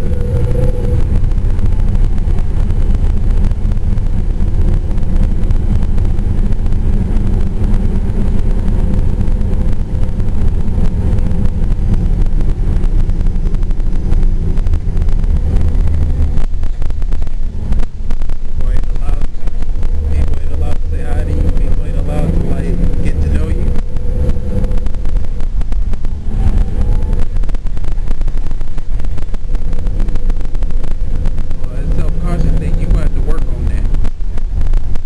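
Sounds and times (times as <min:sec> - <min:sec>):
bus engine and road rumble: 0:00.0 - 0:35.0
faint whine: 0:00.0 - 0:35.0.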